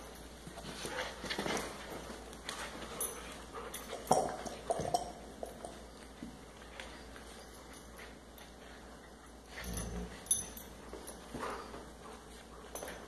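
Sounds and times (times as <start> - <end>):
dogs scuffling and mouthing: 0.0 - 13.0.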